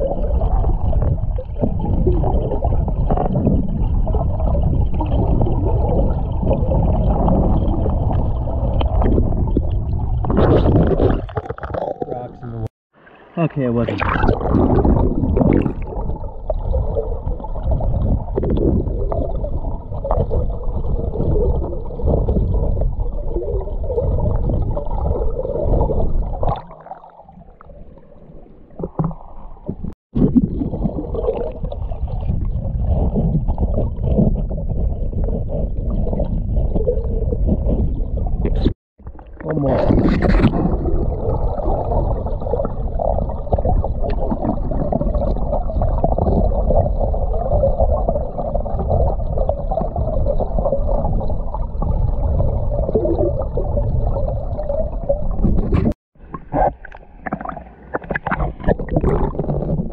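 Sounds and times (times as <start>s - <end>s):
gravel knocking underwater: 0.0s - 12.7s, 13.8s - 59.9s
muffled underwater creek water gurgling: 0.0s - 59.9s.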